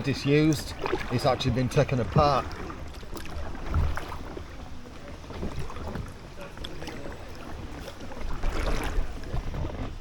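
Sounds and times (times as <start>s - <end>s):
kayak paddle splashing: 0.0s - 10.0s
wind rumbling on microphone: 0.6s - 10.0s.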